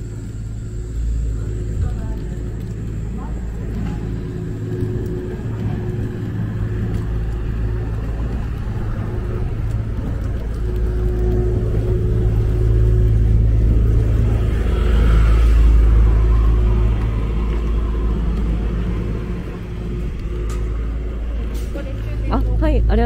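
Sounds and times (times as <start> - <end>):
rickshaw wheels rolling on asphalt: 0.0 - 23.0.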